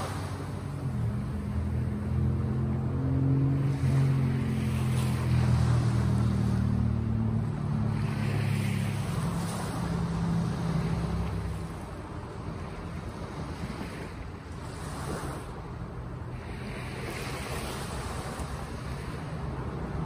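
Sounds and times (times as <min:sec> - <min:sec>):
low engine hum: 0:00.0 - 0:20.0
sea waves washing in: 0:00.0 - 0:20.0.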